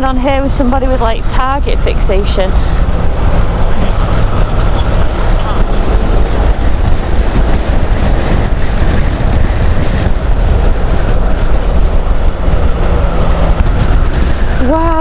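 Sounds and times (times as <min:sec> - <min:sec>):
motorcycle engine running: 0:00.0 - 0:15.0
wind rushing over helmet microphone: 0:00.0 - 0:15.0.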